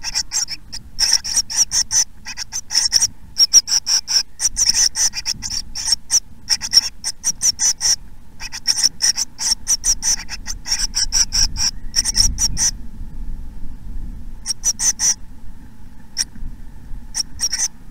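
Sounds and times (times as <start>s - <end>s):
nestling birds cheeping: 0.0s - 12.8s, 14.3s - 17.9s.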